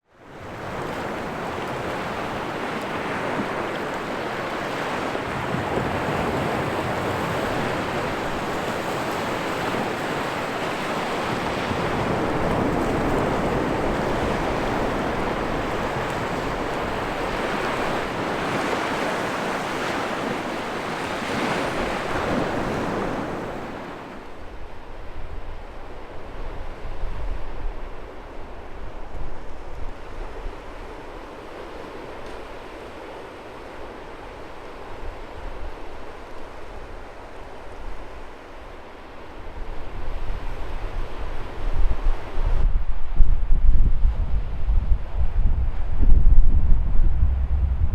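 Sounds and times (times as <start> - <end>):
sea waves breaking on beach: 0.2 - 42.7
wind buffeting microphone: 0.3 - 33.0, 39.4 - 47.9.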